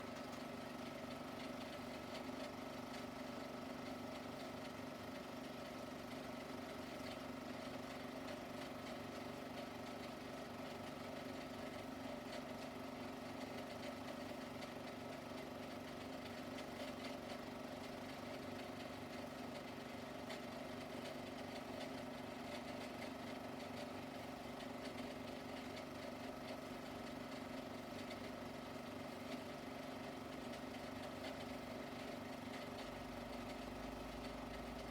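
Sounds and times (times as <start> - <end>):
faint machine hum with tones: 0.0 - 34.9.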